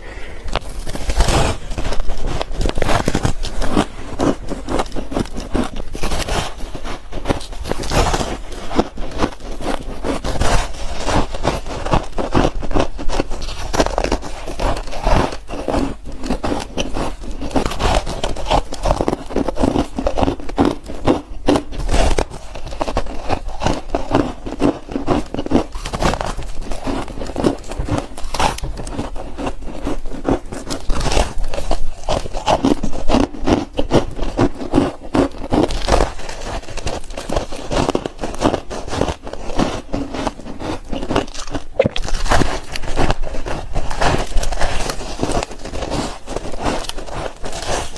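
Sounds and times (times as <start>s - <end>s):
crunching and chewing frost: 0.0s - 47.9s.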